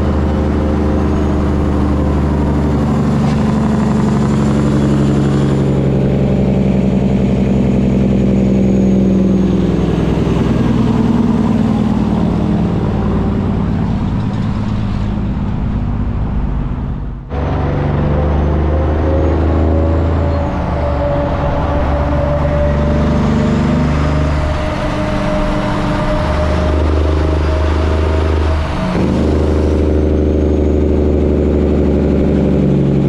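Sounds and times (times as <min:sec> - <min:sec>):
truck diesel engine under load: 0:00.0 - 0:33.0.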